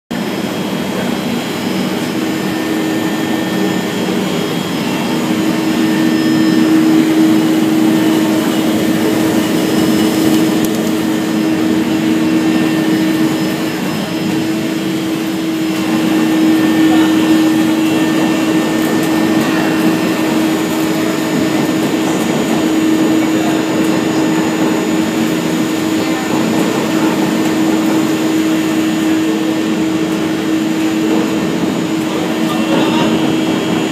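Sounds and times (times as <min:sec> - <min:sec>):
machine humming like a blower: 0:00.1 - 0:33.9.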